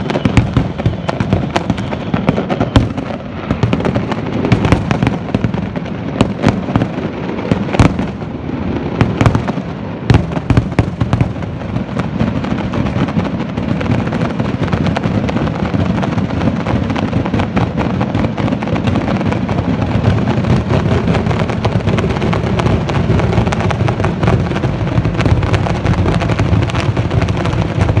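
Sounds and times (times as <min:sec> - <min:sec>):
fireworks rumble and crackle: 0:00.0 - 0:28.0.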